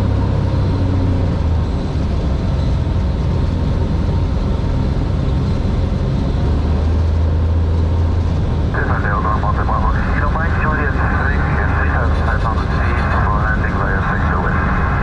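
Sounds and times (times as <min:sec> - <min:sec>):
propeller plane engine drone: 0:00.0 - 0:15.0.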